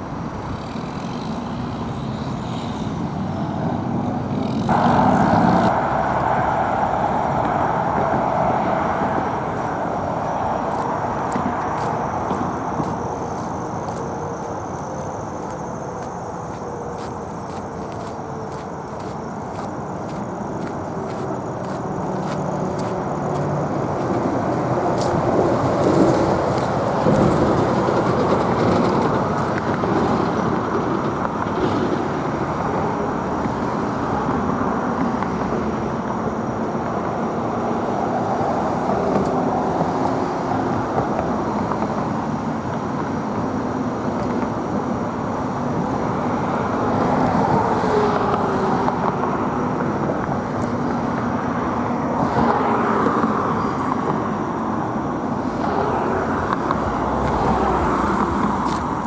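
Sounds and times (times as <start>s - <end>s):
road traffic with cars passing: 0.0s - 59.0s.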